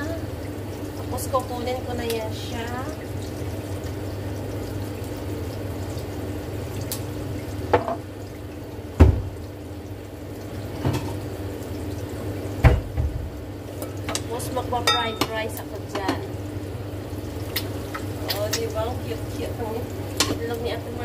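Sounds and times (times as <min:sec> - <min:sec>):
eggs sizzling in a frying pan: 0:00.0 - 0:21.0.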